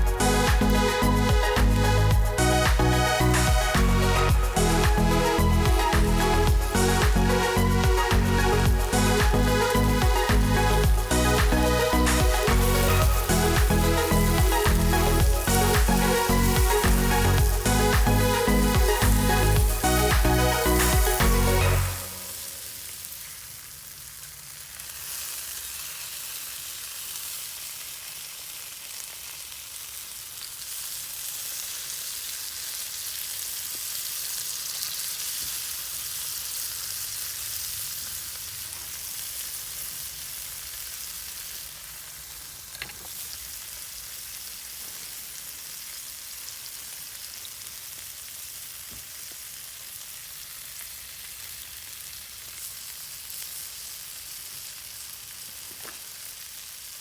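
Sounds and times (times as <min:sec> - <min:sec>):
food sizzling on hot plate: 0:00.0 - 0:57.0.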